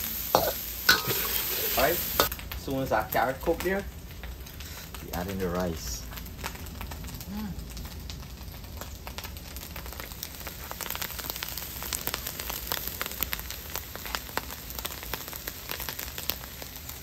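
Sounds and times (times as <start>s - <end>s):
rice sizzling in hot oil: 0.0s - 17.0s.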